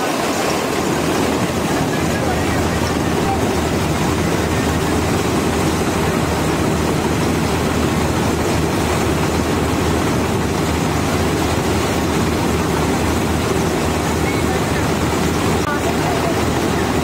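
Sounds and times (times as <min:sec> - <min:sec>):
combine harvester mechanical drone: 0:00.0 - 0:17.0.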